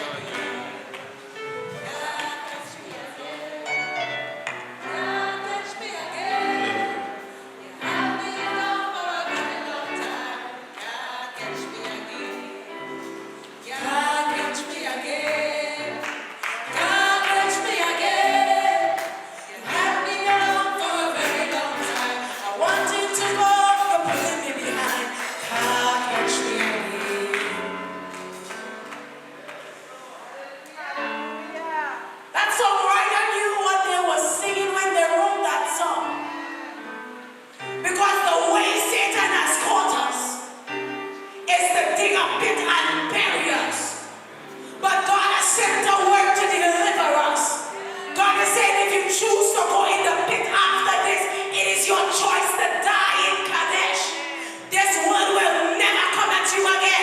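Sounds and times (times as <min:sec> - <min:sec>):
gospel singing: 0:00.0 - 0:57.0
musical backing: 0:00.0 - 0:57.0.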